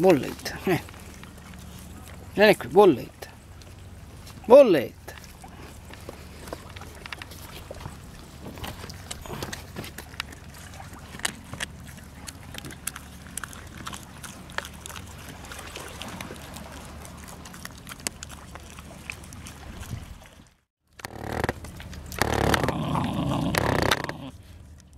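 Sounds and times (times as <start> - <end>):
puppy chewing crunchily: 0.0 - 24.9.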